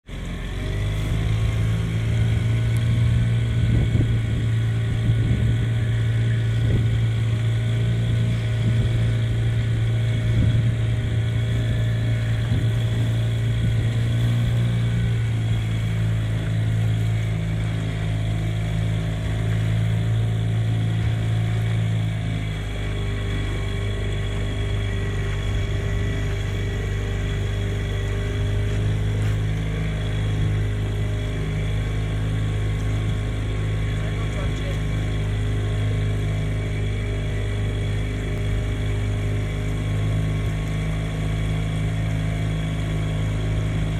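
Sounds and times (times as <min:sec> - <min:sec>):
large engine humming: 0:00.0 - 0:43.9.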